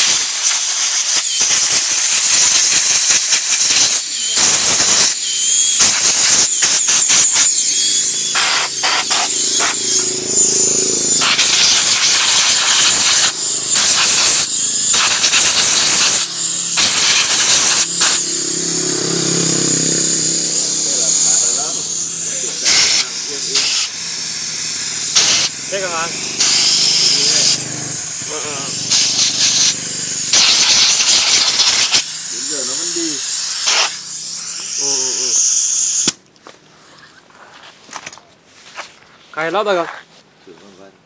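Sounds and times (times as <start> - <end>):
spray hissing in bursts: 0.0 - 36.2.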